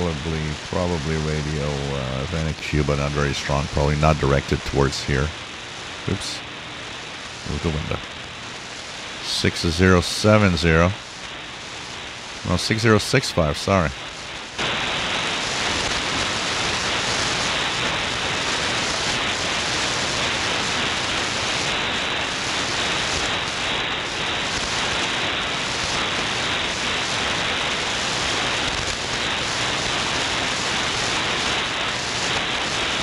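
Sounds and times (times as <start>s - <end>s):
shortwave static hiss: 0.0s - 33.0s.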